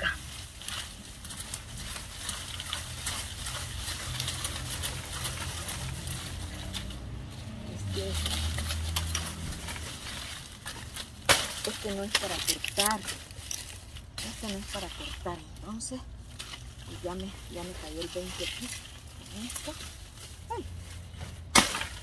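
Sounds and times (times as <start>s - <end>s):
dry leaves crackling: 0.0s - 22.0s.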